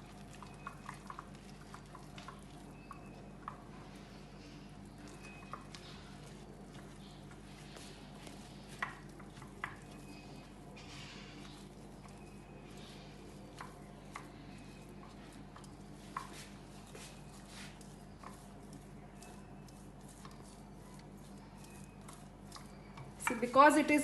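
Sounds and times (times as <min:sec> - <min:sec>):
spoon stirring thick batter: 0:00.0 - 0:24.0.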